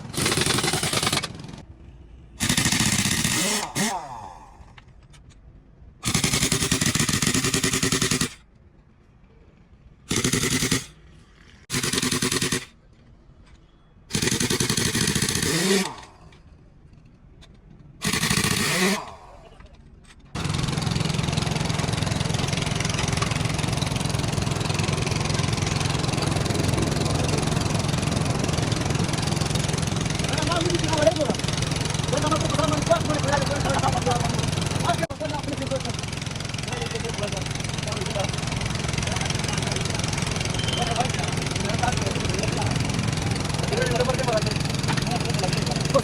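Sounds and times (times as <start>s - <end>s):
impact wrench rattling bursts: 0.0s - 1.7s, 2.4s - 4.6s, 6.0s - 8.5s, 10.1s - 12.8s, 14.1s - 16.6s, 18.0s - 19.6s, 20.2s - 46.0s
engine running with low hum: 5.8s - 46.0s.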